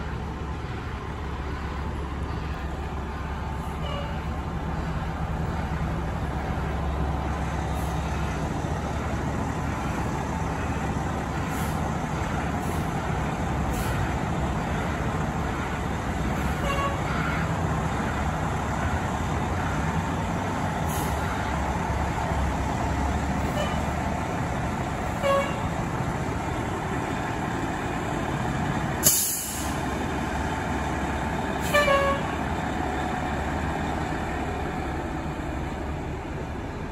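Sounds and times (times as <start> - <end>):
diesel engine low rumble: 0.0 - 36.9.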